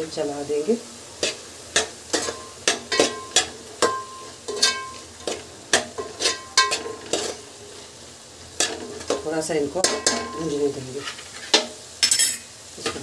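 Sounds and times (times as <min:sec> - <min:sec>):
light sizzle: 0:00.0 - 0:13.0
spoon knocking and scraping metal pot: 0:01.2 - 0:07.4, 0:08.6 - 0:13.0.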